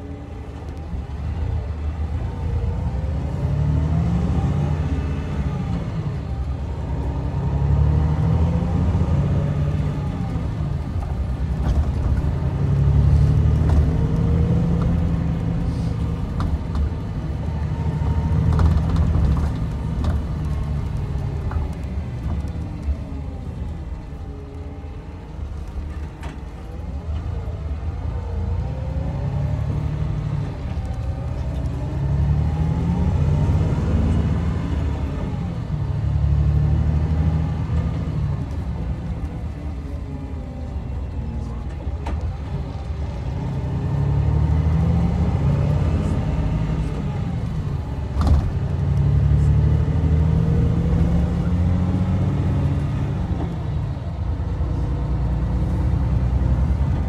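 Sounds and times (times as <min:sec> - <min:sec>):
diesel engine revving: 0:00.0 - 0:57.0
road noise: 0:00.0 - 0:57.0.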